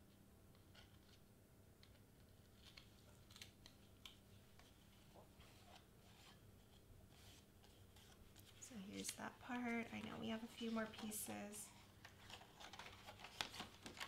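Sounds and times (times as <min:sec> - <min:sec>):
cardstock rustling: 0:01.8 - 0:14.0.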